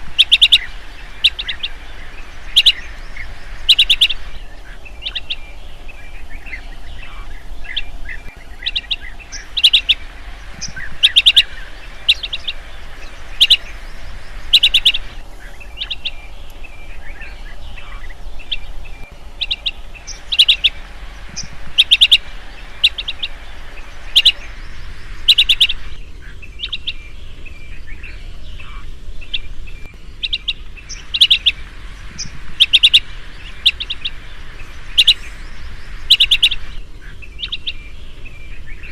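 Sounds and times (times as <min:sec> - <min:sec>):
bird high chirps: 0:00.0 - 0:38.9
softer lower bird chirps: 0:00.0 - 0:38.9.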